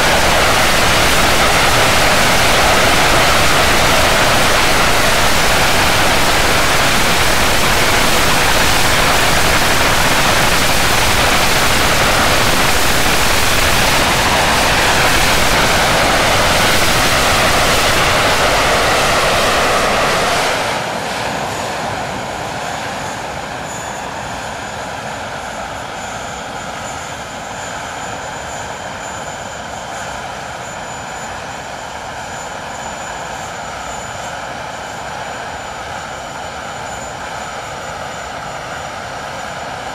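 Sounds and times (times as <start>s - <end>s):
jet engines roaring: 0.0s - 39.9s
turbine whine: 0.0s - 39.9s.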